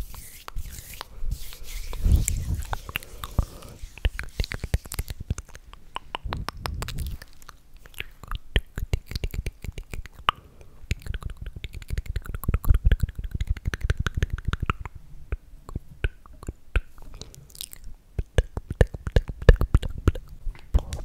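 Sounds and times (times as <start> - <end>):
wet mouth clicks and lip smacks: 1.9 - 21.0.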